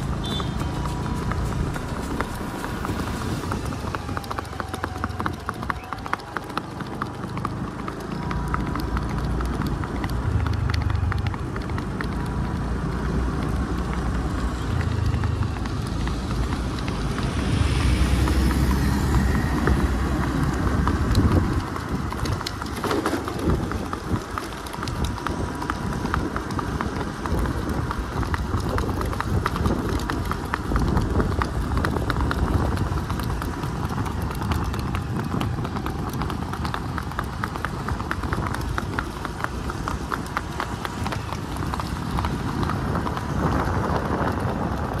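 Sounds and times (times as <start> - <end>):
engine rumble: 0.0 - 45.0
horse hooves on asphalt: 0.0 - 45.0
wind rumble: 0.0 - 45.0.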